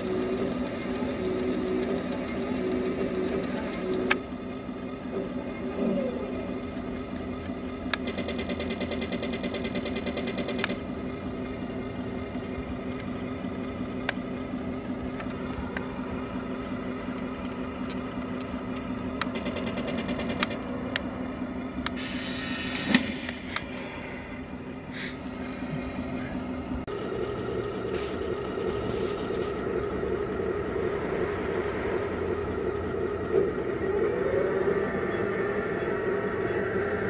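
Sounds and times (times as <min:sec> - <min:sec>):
tracks ticking: 0:00.0 - 0:05.1, 0:06.4 - 0:22.0, 0:22.7 - 0:37.0
model tank motor hum: 0:00.0 - 0:37.0.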